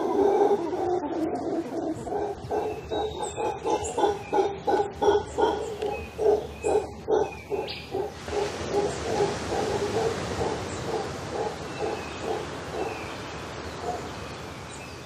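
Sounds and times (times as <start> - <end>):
howler monkeys grunting: 0.0 - 13.1.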